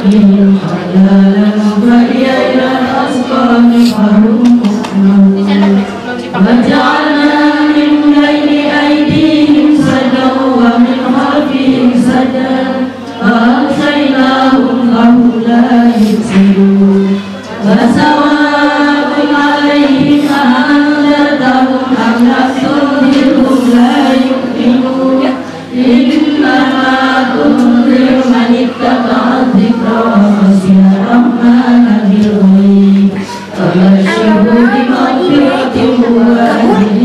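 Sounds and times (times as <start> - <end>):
women chanting devotional song: 0.0 - 37.0.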